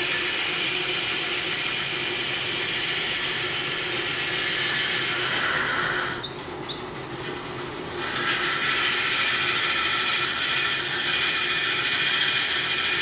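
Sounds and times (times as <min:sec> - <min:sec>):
woodworking machine hissing: 0:00.0 - 0:06.2, 0:08.0 - 0:13.0.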